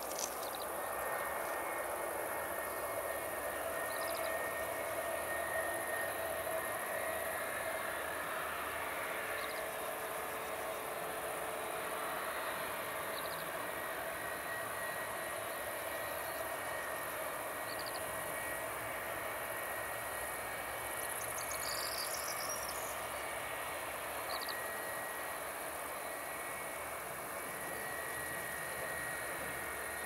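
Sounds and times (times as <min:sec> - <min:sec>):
insects chirping: 0:00.0 - 0:08.5, 0:09.2 - 0:11.0, 0:12.9 - 0:13.6, 0:14.6 - 0:30.0
distant jet engines rushing: 0:00.0 - 0:30.0.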